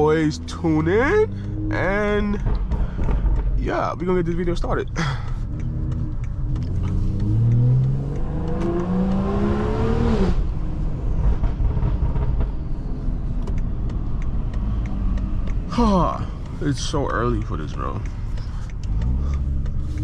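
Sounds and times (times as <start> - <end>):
car engine accelerating: 0.0 - 20.0
engine and road rumble: 0.0 - 20.0.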